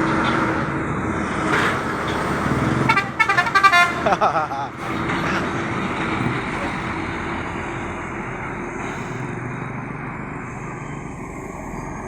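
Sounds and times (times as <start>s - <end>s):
bus engines and road noise: 0.0s - 12.0s.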